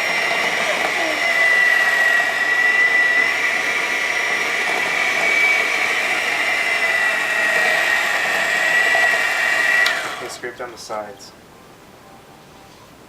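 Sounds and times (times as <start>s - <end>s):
electric hand mixer whining: 0.0s - 10.6s.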